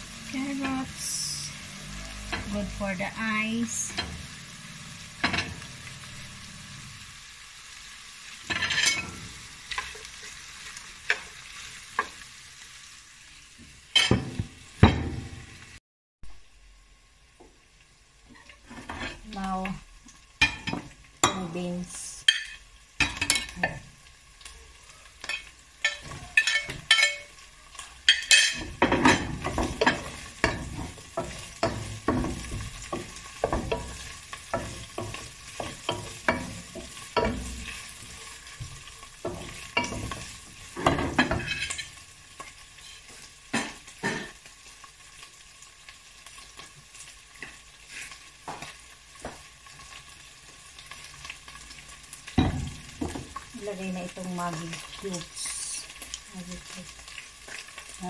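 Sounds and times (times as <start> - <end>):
vegetables sizzling: 0.0 - 58.0.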